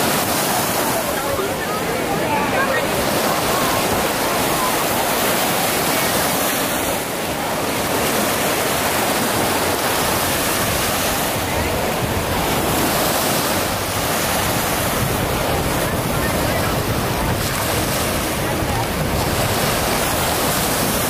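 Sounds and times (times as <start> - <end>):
waves washing onto sandy shore: 0.0 - 21.0.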